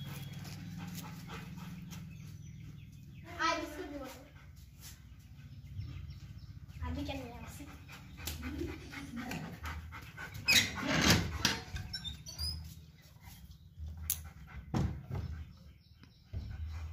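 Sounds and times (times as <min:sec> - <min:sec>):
dog panting: 0:00.0 - 0:16.9.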